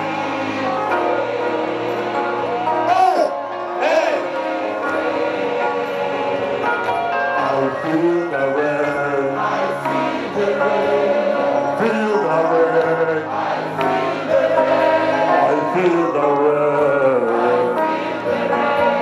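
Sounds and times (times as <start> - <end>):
musical backing: 0.0 - 19.0
voices singing gliding notes: 0.0 - 19.0.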